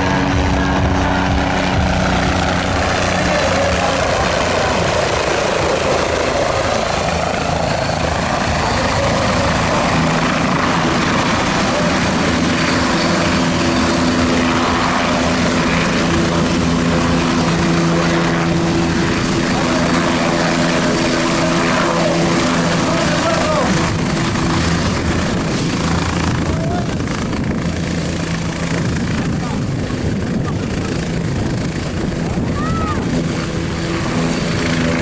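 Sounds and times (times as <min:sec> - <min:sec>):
aircraft engine drone: 0:00.0 - 0:35.0.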